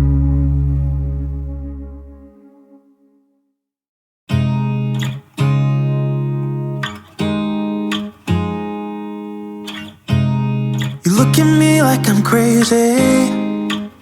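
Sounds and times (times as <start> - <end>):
guitar strumming slow chords: 0.0 - 2.8, 4.3 - 14.0.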